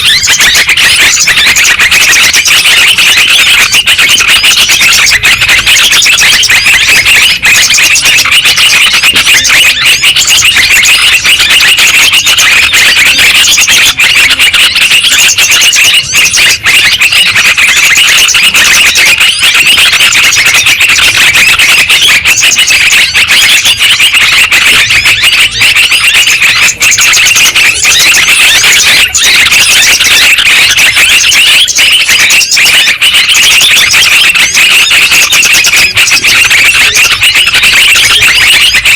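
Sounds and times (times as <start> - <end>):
birds chattering: 0.0 - 38.9.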